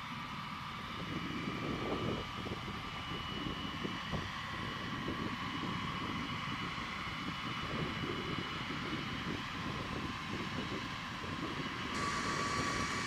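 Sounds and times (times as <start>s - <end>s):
distant jet engines: 0.0s - 13.0s.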